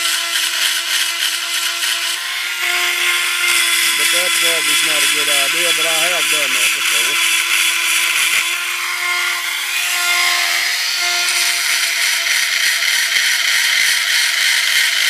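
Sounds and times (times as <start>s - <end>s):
electric grinder on steel: 0.0s - 15.0s.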